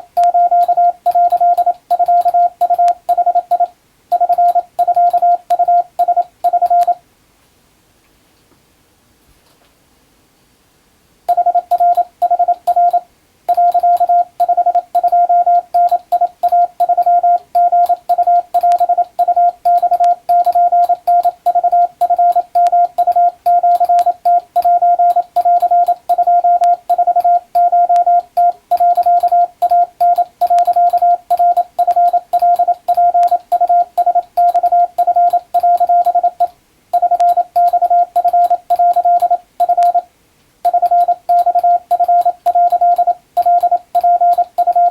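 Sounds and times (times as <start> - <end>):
morse code beep tone: 0.0 - 7.0, 11.3 - 40.1, 40.7 - 44.9.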